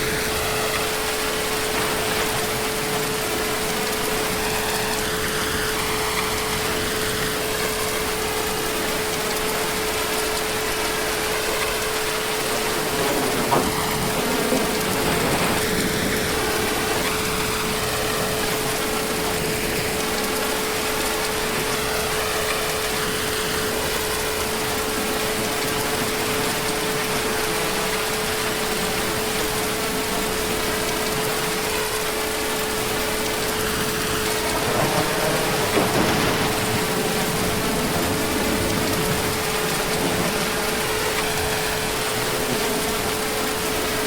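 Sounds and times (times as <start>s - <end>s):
heavy rain hissing: 0.0s - 44.0s.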